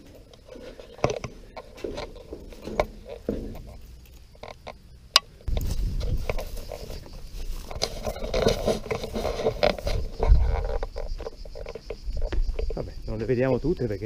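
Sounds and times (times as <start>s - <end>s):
footsteps on stone path: 0.0s - 13.1s
wind rumbling on microphone: 0.0s - 14.0s.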